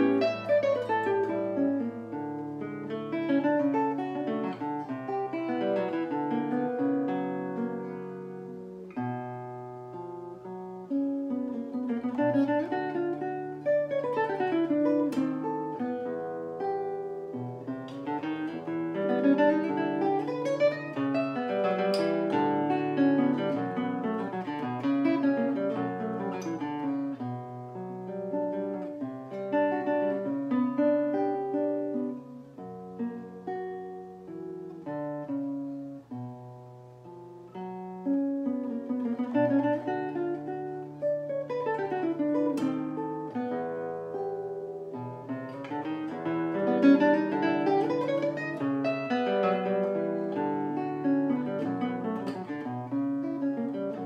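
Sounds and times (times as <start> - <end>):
classical guitar fingerstyle: 0.0 - 54.0.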